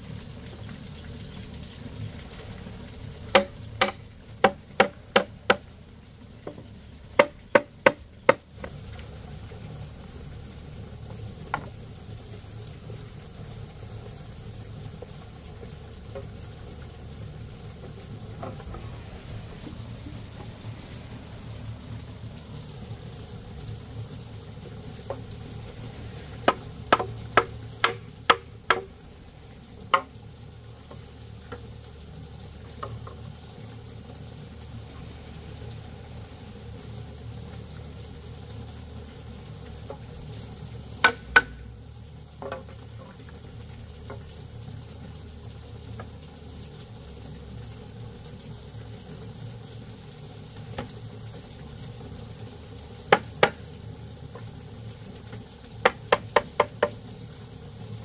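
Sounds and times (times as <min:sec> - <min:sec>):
food frying in a pan: 0:00.0 - 0:58.0.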